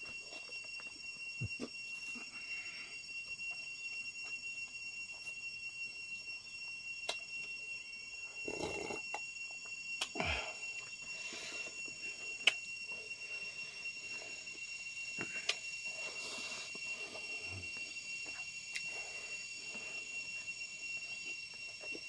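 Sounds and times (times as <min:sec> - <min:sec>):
high-pitched whine: 0:00.0 - 0:22.0.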